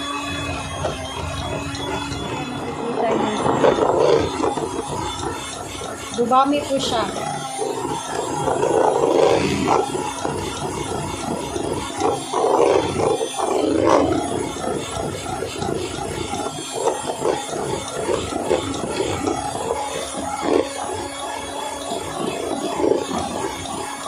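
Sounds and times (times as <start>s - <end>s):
electric hand mixer whipping cream: 0.0s - 24.0s.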